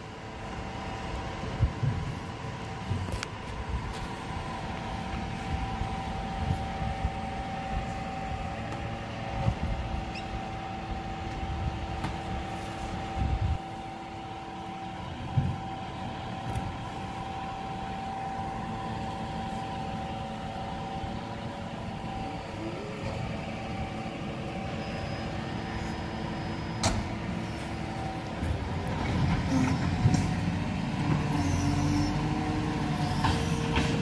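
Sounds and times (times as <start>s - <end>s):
garbage truck idling: 0.0s - 34.0s.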